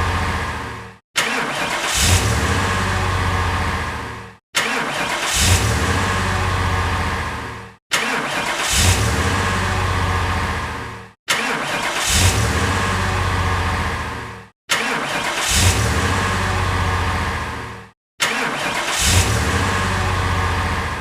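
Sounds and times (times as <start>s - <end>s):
car engine starting and running: 0.0s - 21.0s.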